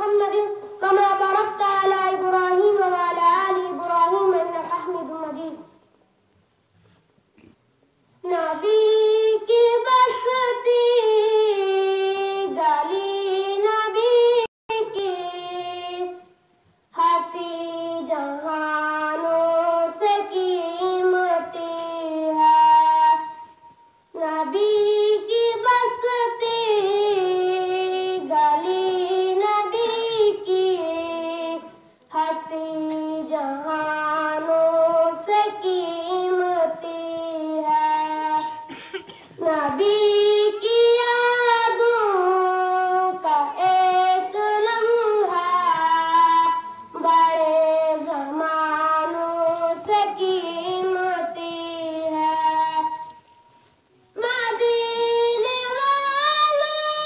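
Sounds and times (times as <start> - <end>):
child singing unaccompanied: 0.0 - 5.8, 8.2 - 23.5, 24.1 - 53.3, 54.1 - 57.0.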